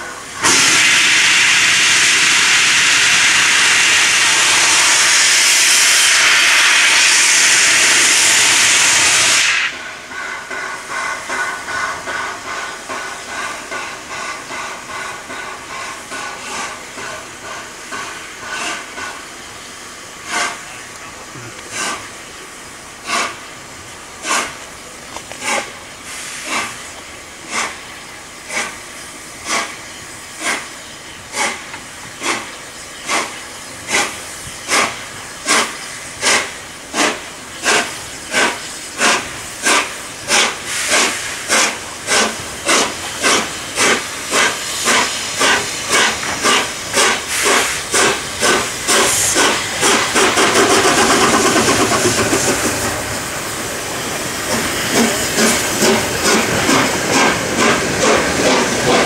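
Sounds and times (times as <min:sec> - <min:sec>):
steam hiss: 0:00.0 - 0:59.0
steam locomotive exhaust beats: 0:00.0 - 0:59.0.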